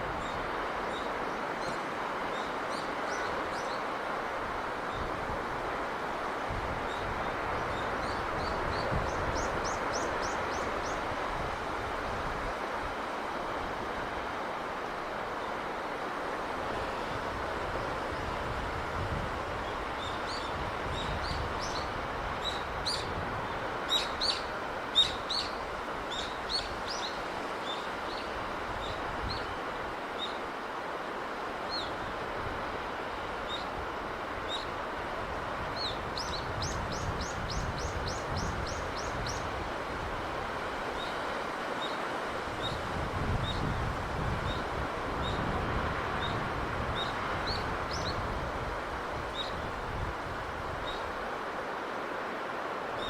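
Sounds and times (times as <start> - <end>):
sea breeze: 0.0 - 53.0.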